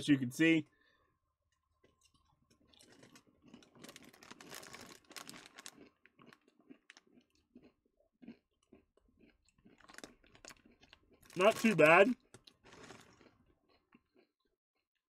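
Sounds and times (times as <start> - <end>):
crunchy snack chewing: 1.9 - 14.4.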